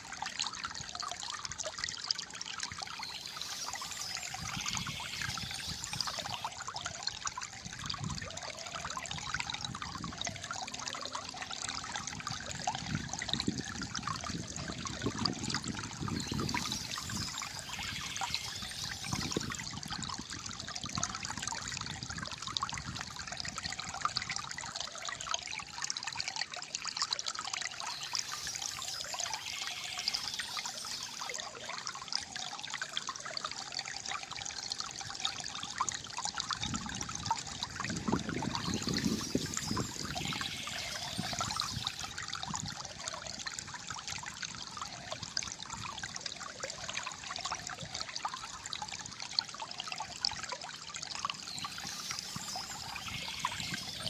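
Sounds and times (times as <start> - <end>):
water trickling and gurgling: 0.0 - 54.0.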